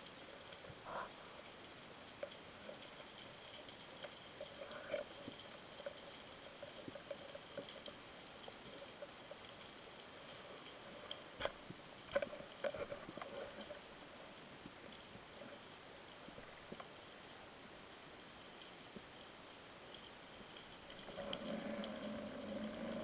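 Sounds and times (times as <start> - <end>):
quiet underwater hiss: 0.0 - 23.0
underwater clicks and crackles: 0.0 - 23.0.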